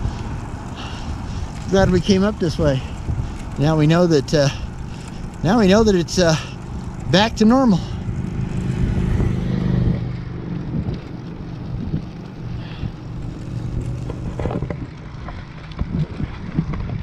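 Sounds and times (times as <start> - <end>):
motor vehicle passing: 0.0 - 17.0
road and wind noise: 0.0 - 17.0.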